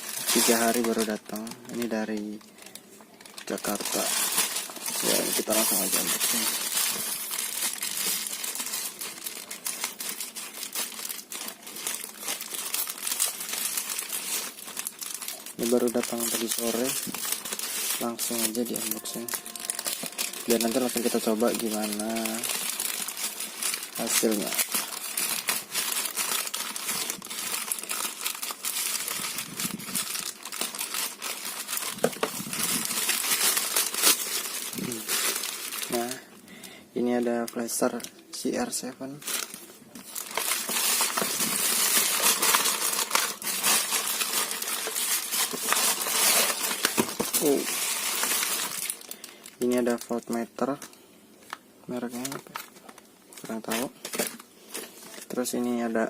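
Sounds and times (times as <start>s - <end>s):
packaging crinkling and rustling: 0.0s - 36.3s, 37.3s - 55.9s.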